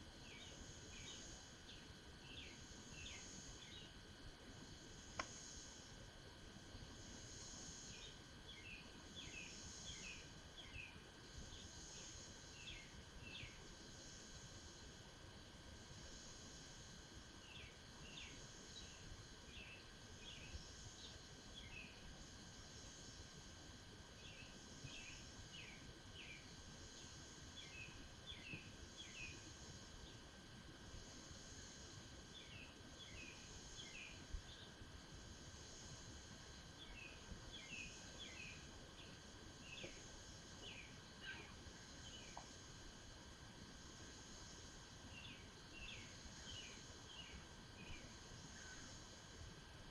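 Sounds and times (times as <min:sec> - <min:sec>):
high insect drone: 0:00.0 - 0:49.9
small birds chirping: 0:00.1 - 0:04.0, 0:06.7 - 0:15.1, 0:17.4 - 0:23.4, 0:24.1 - 0:30.3, 0:31.0 - 0:43.2, 0:44.0 - 0:49.4.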